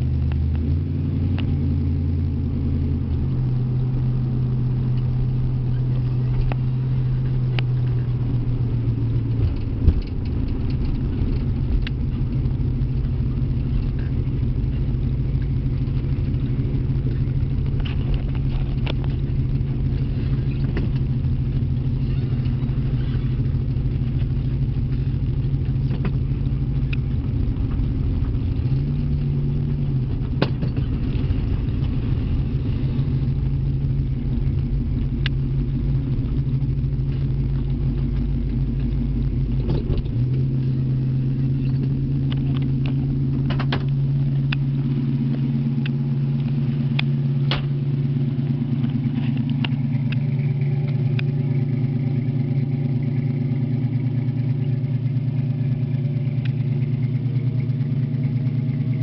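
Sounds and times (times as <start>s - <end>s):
car engine running: 0.0s - 59.0s
road rumble: 0.0s - 59.0s.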